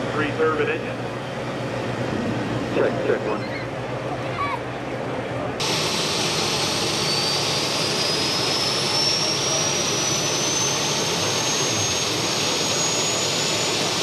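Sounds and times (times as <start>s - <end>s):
turbine engine whine: 0.0s - 14.0s.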